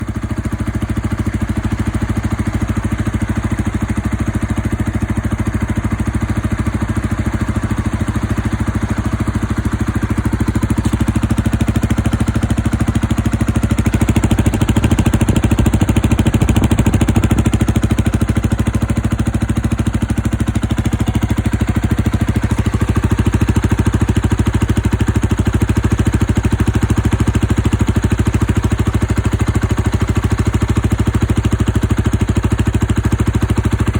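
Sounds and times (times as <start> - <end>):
motorcycle idling: 0.0 - 33.9.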